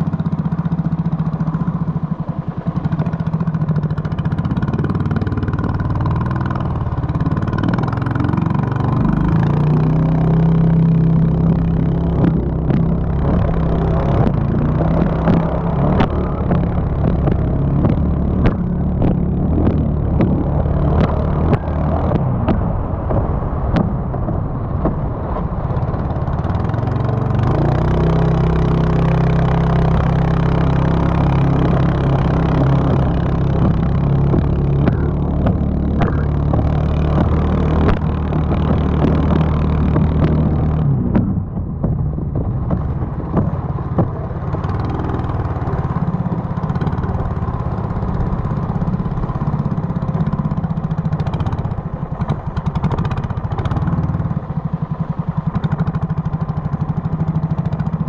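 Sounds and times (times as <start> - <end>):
boat engine at high revs: 0.0 - 24.0, 25.6 - 58.0.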